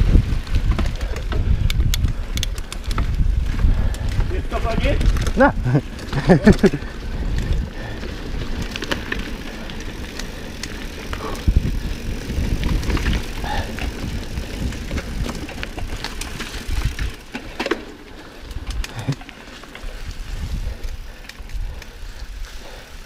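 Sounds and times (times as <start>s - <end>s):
bike rattling and knocking: 0.0s - 22.8s
bike tyres rumbling on dirt: 0.0s - 23.0s.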